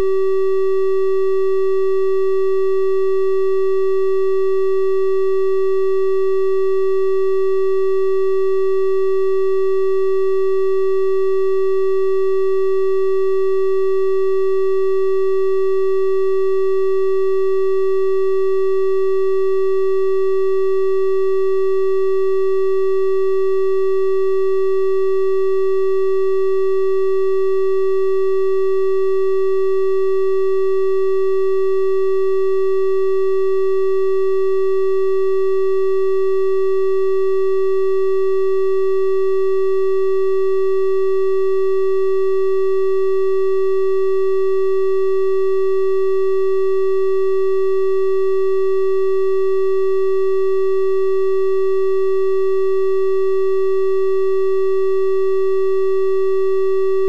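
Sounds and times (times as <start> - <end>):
steady triangle-wave test tone: 0.0 - 57.0.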